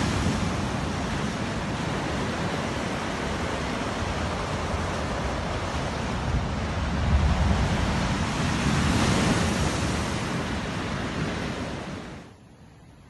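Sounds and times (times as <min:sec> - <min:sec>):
strong wind: 0:00.0 - 0:13.0
waves breaking on the coast: 0:00.0 - 0:13.0
wind rumbling on microphone: 0:00.0 - 0:13.0.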